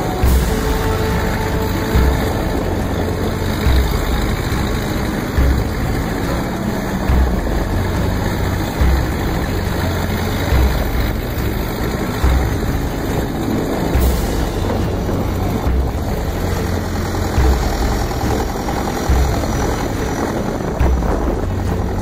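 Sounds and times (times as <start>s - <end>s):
boat engine noise: 0.0s - 22.0s
water rushing: 0.0s - 22.0s.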